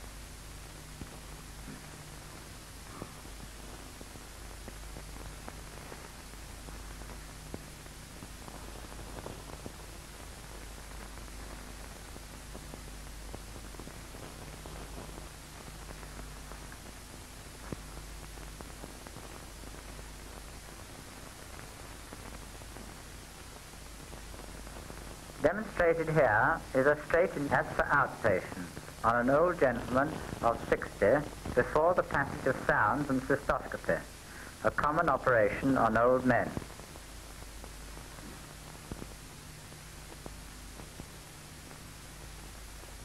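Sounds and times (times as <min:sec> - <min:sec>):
film soundtrack hiss: 0:00.0 - 0:43.0.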